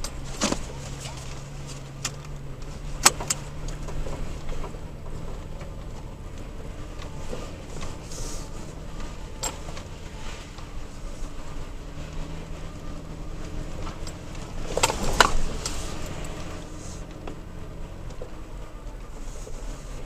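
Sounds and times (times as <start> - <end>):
low engine and tyre noise: 0.0 - 20.0.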